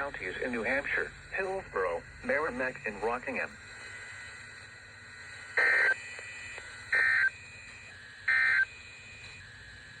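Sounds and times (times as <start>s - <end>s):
buzzing digital data tones: 0.0s - 9.5s.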